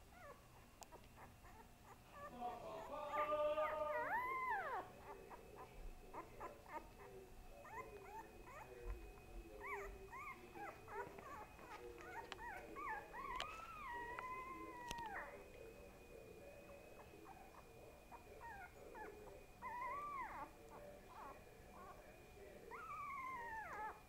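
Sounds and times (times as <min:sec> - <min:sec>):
pet whining: 0:00.0 - 0:24.0.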